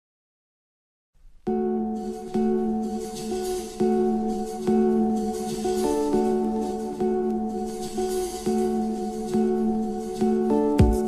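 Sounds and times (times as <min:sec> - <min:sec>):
plucked string background music: 0:01.5 - 0:11.0.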